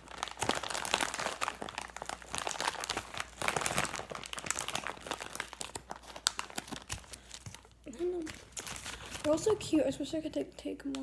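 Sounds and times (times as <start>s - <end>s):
packaging rustling and crackling: 0.0s - 11.0s.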